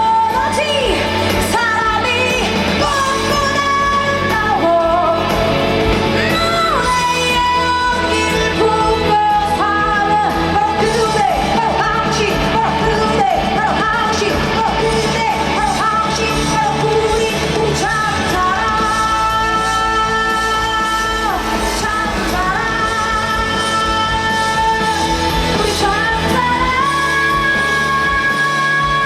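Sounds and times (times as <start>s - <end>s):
band playing: 0.0s - 29.0s.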